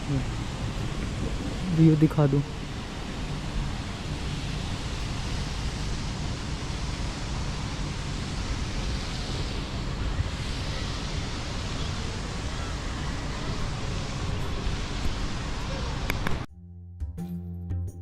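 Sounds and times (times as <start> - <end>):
wind blowing across microphone: 0.0 - 16.5.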